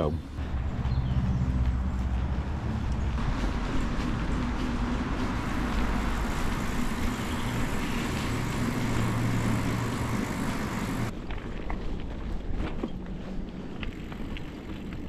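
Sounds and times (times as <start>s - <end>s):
low hum: 0.2s - 13.9s
bicycle tyres rumbling on gravel: 0.3s - 15.0s.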